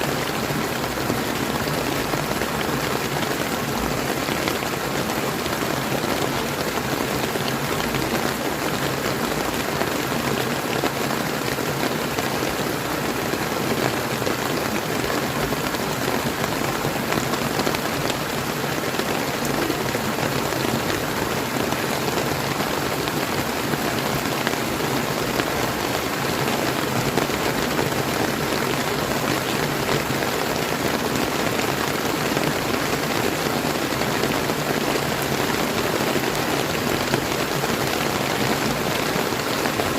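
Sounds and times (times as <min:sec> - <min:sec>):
rain falling: 0:00.0 - 0:39.9
river water flowing: 0:00.0 - 0:39.9.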